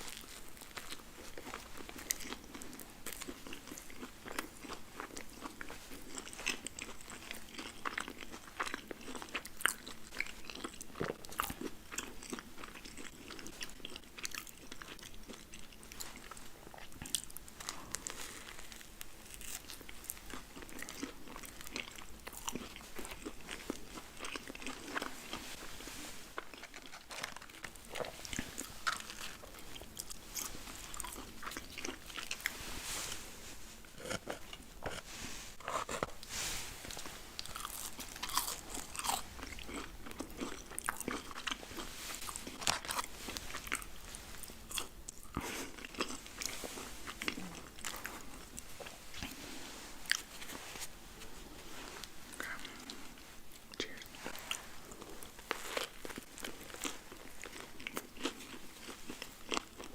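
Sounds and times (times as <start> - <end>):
crunchy bites and chewing: 0.0 - 25.4, 26.4 - 32.6, 33.9 - 49.4, 52.3 - 59.9.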